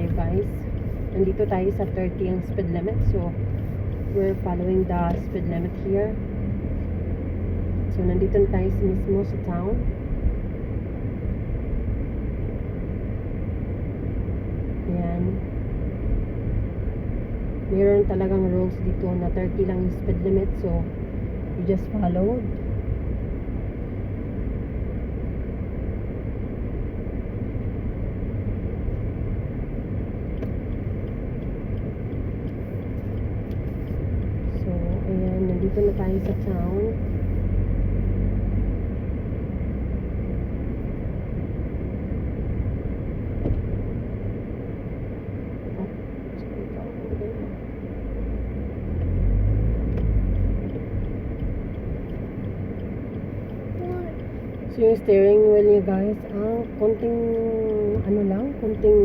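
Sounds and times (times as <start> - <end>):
road and engine noise inside car: 0.0 - 59.0.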